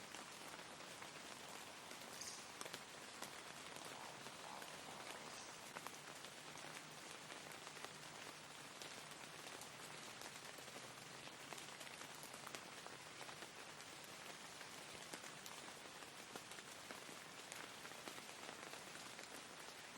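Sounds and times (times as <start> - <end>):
raindrops ticking: 0.0 - 19.9
steady rainfall: 0.0 - 19.9.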